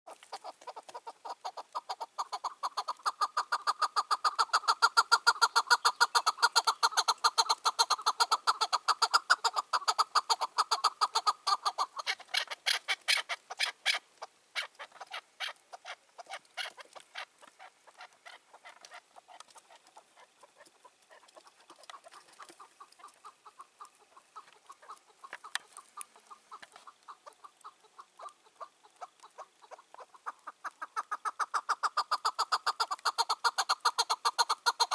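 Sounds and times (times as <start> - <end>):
partridge clucking calls: 0.1 - 34.9.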